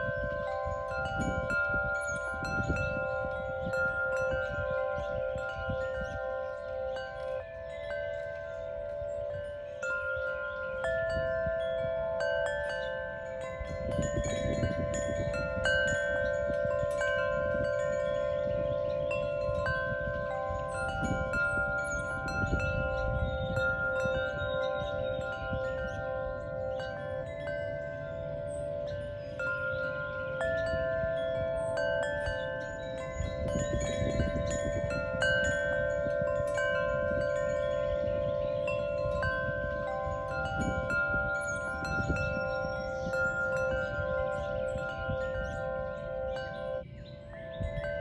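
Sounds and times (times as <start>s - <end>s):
wind chimes ringing: 0.0s - 48.0s.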